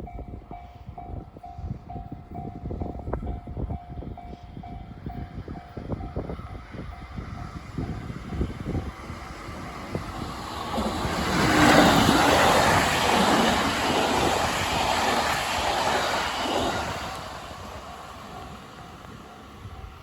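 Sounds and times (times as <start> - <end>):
electric train rolling past: 0.0 - 20.0.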